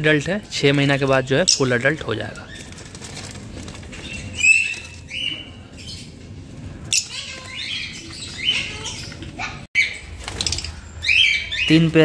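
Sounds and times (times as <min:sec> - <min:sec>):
parrots chirping and squawking: 0:00.9 - 0:12.0.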